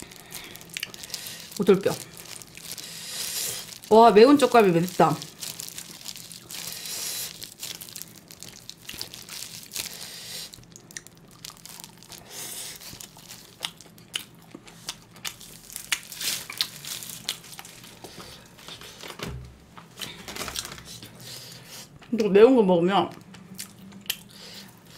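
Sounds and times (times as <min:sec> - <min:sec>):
crunching and chewing meat: 0:00.0 - 0:19.0, 0:23.1 - 0:24.9
plastic gloves crinkling: 0:00.0 - 0:19.2, 0:19.8 - 0:21.3.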